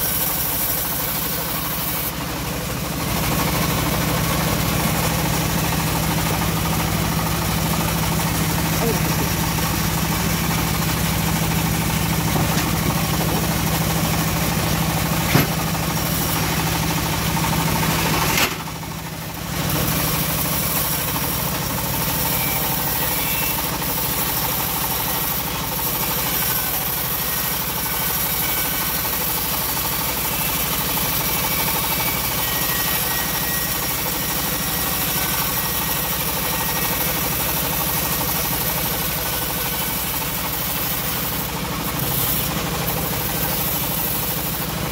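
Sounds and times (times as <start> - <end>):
bandsaw mill ripping wood: 0.0 - 44.9.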